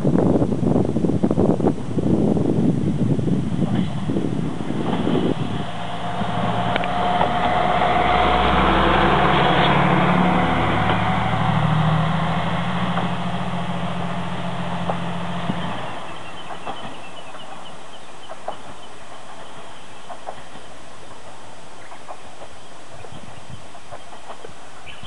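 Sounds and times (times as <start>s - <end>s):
diesel railcar engine drone: 0.0s - 25.0s
wheels clicking on rails: 3.6s - 25.0s.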